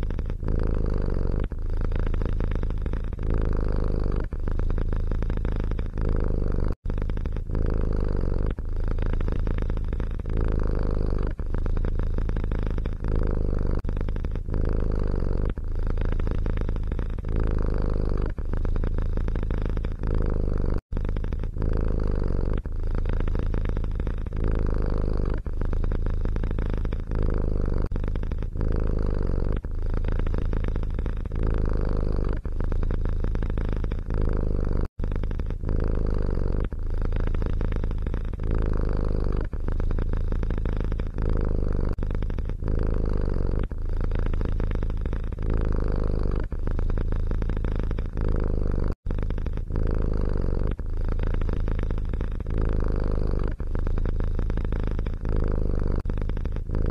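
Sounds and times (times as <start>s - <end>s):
cat purring: 0.0s - 56.9s.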